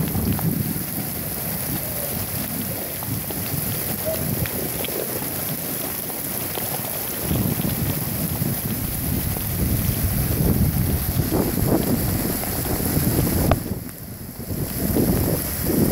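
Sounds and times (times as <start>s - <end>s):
torrential rain on standing water: 0.0s - 15.9s.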